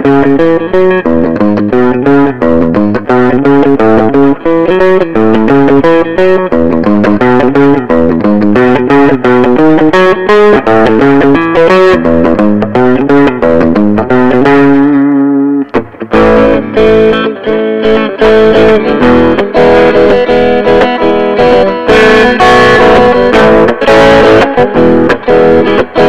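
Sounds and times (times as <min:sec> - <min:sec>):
electric guitar chords and notes: 0:00.0 - 0:26.0.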